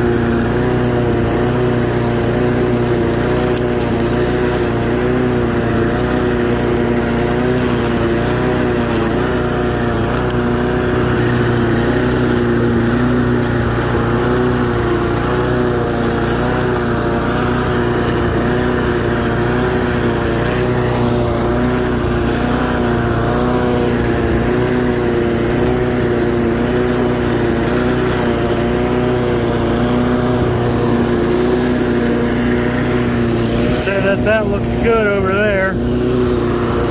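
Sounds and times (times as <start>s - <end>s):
push mower engine running: 0.0s - 36.9s.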